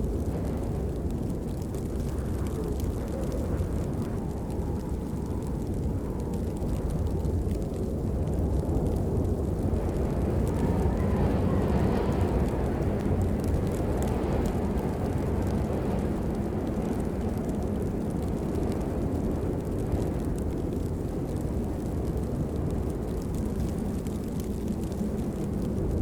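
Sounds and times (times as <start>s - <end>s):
deep low rumble: 0.0s - 26.0s
heavy rain: 0.0s - 26.0s.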